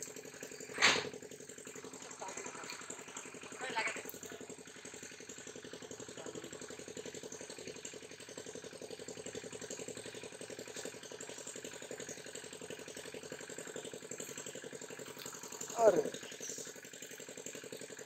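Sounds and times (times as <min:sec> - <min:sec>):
engine chugging steadily: 0:00.0 - 0:18.0.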